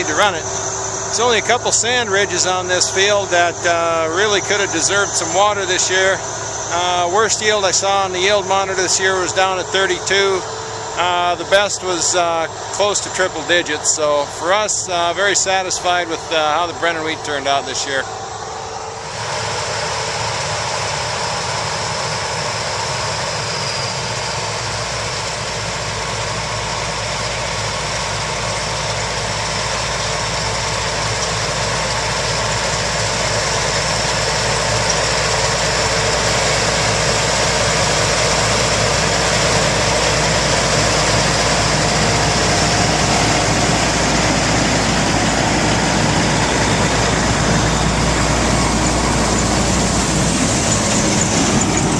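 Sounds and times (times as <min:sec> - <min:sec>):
harvest machinery engine drone: 0:00.0 - 0:51.9.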